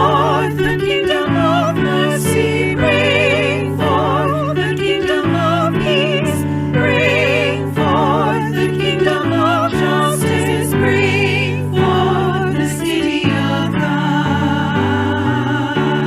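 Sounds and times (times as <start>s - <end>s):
choir singing with vibrato: 0.0s - 16.0s.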